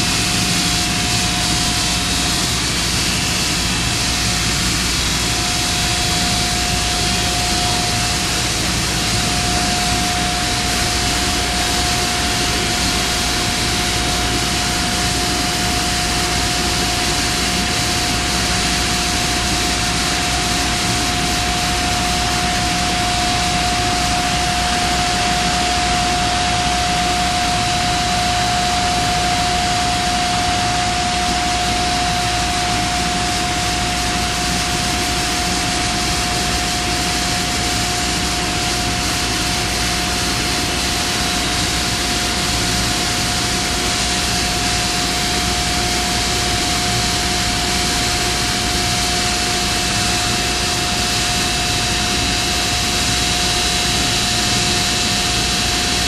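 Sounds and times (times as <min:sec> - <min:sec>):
industrial machinery roaring: 0:00.0 - 0:56.0.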